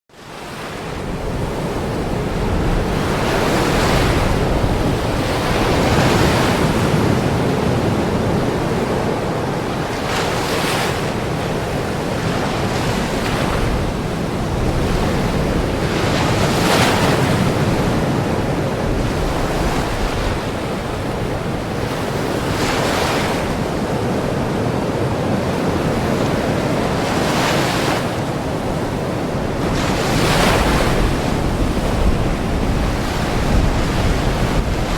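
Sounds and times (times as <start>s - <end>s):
waves breaking on shore: 0.2s - 34.9s.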